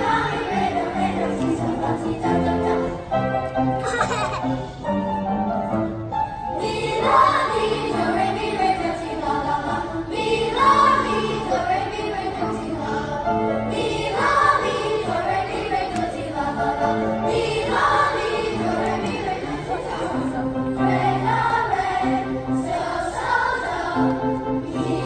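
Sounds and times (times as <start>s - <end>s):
children's choir singing: 0.0s - 4.3s, 6.1s - 25.0s.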